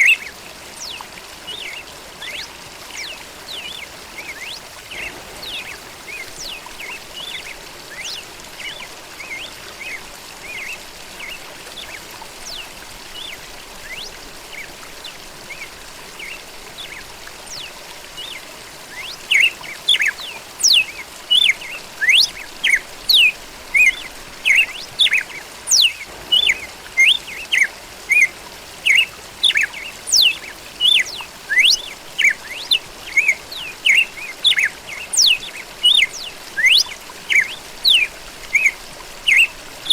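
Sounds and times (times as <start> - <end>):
trickle of water: 0.0 - 39.9
bird singing: 0.8 - 39.9.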